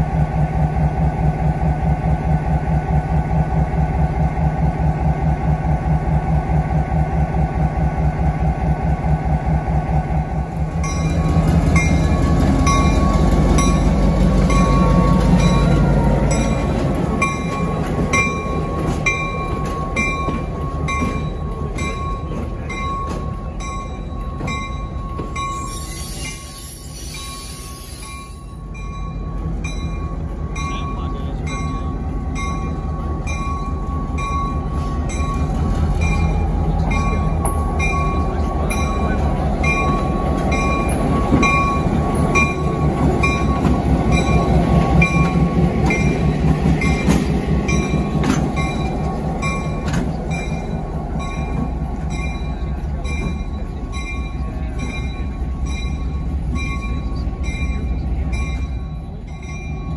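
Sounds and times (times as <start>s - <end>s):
diesel locomotive engine pulsing: 0.0s - 59.9s.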